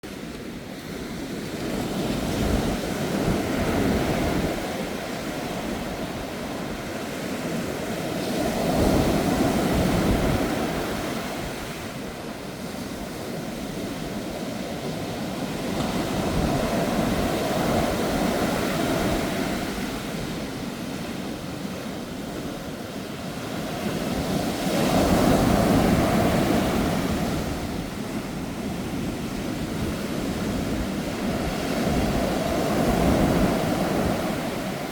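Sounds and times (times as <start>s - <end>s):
sea waves breaking on shore: 0.0s - 34.9s
wind rumbling on microphone: 0.0s - 34.9s.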